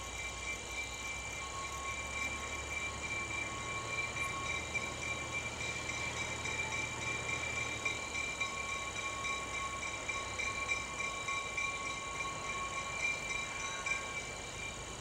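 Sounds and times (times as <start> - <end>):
high-pitched ringing tones: 0.0 - 15.0
locomotive engine rumble: 0.0 - 15.0.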